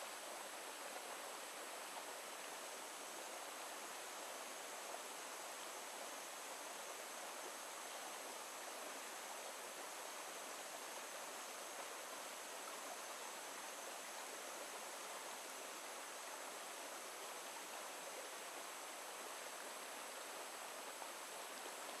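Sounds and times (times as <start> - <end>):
stream running over stones: 0.0 - 22.0.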